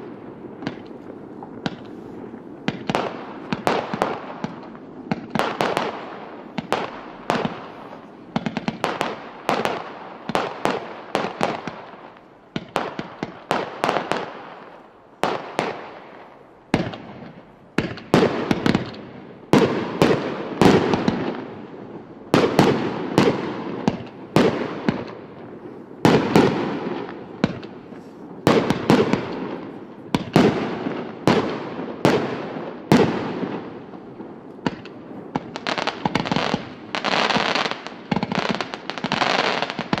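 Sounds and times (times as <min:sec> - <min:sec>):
fireworks shots and bursts: 0:00.0 - 0:40.0.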